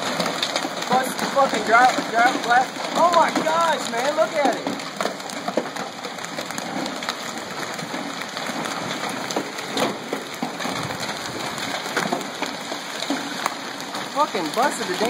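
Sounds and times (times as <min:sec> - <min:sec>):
hail clattering on ground: 0:00.0 - 0:15.0.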